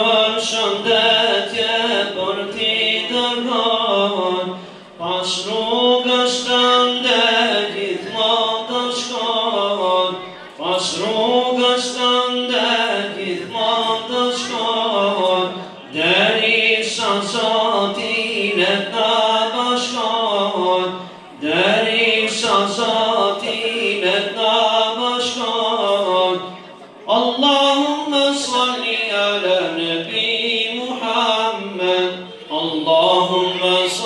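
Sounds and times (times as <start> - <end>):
man singing unaccompanied: 0.0 - 34.0.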